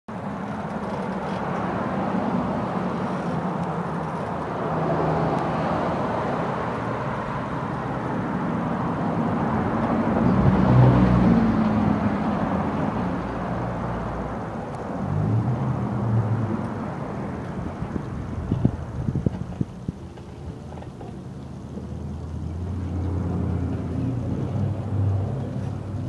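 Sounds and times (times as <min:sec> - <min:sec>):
bicycle rolling on concrete: 0:00.1 - 0:26.0.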